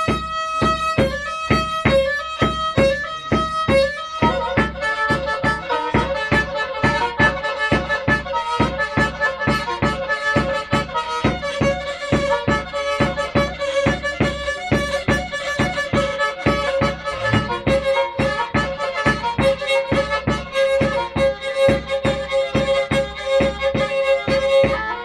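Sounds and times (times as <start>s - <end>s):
bowed fiddle dance tune: 0.0s - 25.0s
low beat thumps: 0.0s - 25.0s.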